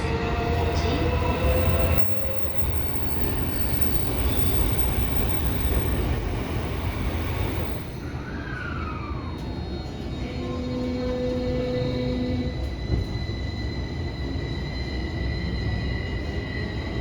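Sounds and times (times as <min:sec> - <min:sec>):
subway car rumble: 0:00.0 - 0:17.0.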